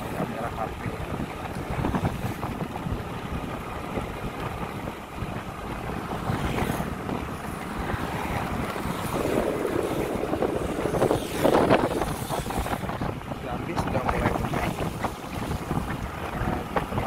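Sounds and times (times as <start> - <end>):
motorcycle passing: 0.0 - 13.4, 14.1 - 17.0
road traffic passing: 0.0 - 17.0
wind buffeting microphone: 0.0 - 17.0.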